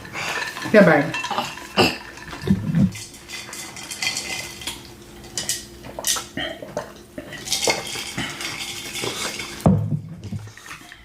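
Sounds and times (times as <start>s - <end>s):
forks clinking on dishes: 0.3s - 9.7s.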